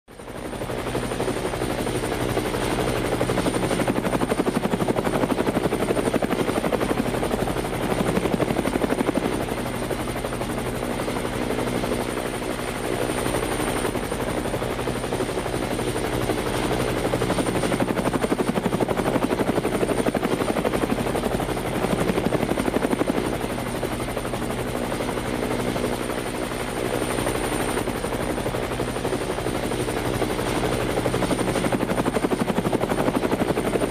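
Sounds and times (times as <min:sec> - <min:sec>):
helicopter rotor chop: 0:00.1 - 0:33.9.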